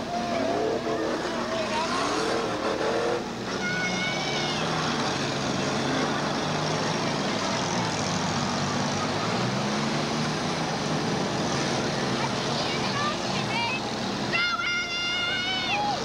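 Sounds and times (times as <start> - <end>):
car engines revving: 0.0 - 14.4.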